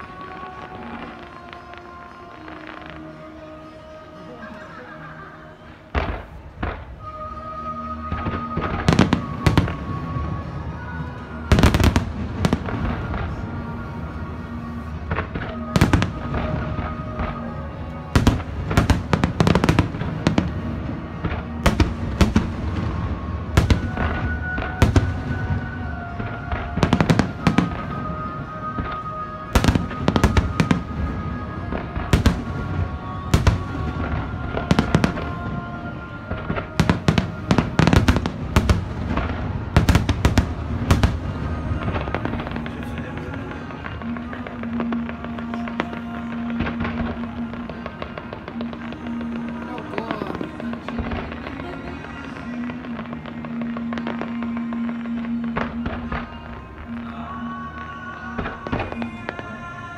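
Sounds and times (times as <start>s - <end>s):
music of long held notes: 0.0s - 59.9s
fireworks bangs: 5.5s - 59.9s.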